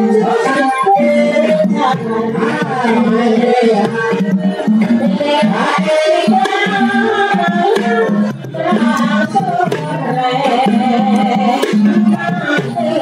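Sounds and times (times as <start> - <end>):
person singing: 0.0 - 13.0
sustained pitched percussion: 0.0 - 13.0
hand drumming: 1.3 - 13.0.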